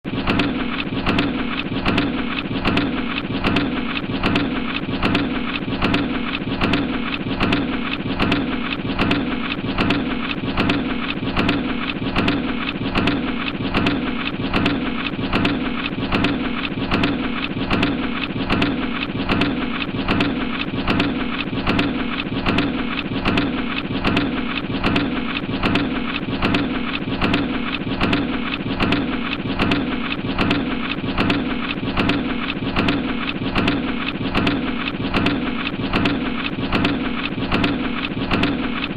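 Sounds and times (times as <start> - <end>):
press machine clattering: 0.1 - 38.9.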